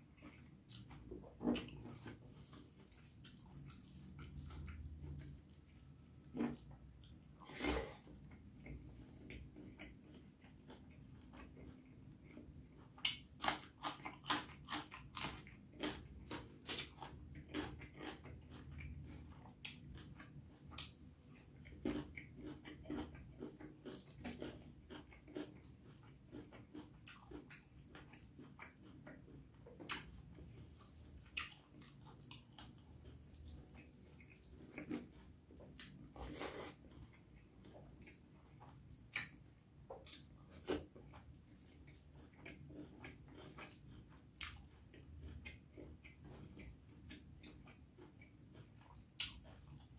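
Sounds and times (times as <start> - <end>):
chewing and wet mouth smacks: 0.1 - 7.4, 8.0 - 49.9.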